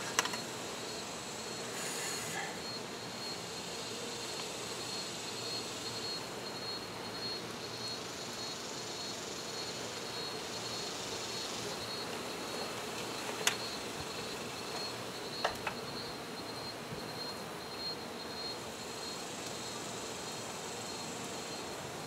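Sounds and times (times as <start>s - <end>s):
honey bees buzzing: 0.0s - 22.0s.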